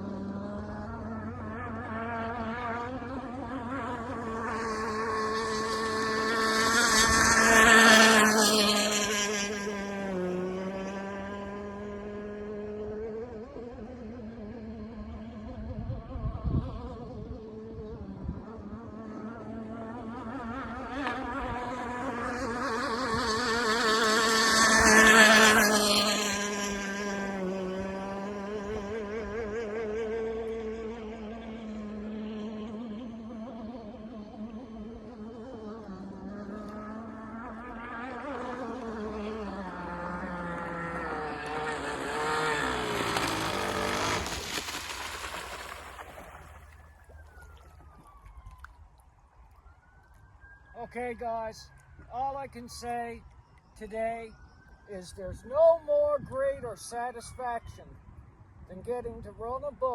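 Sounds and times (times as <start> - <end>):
model boat engine running: 0.0 - 48.0.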